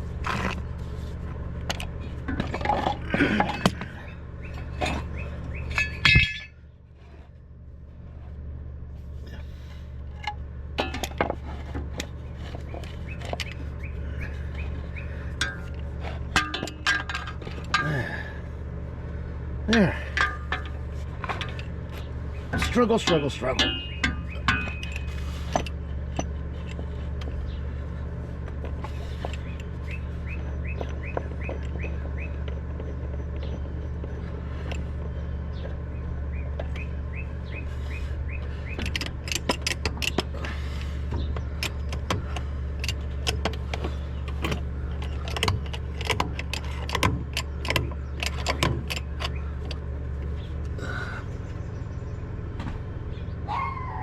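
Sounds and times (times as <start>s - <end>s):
steady low hum: 0.0s - 54.0s
tools and parts clinking: 0.1s - 7.3s, 9.4s - 18.6s, 19.7s - 50.8s.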